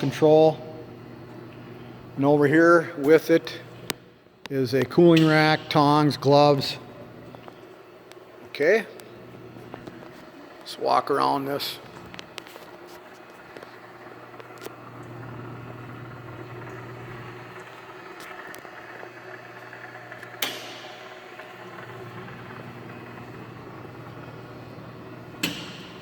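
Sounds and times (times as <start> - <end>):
furnace electrical hum: 0.0 - 26.0.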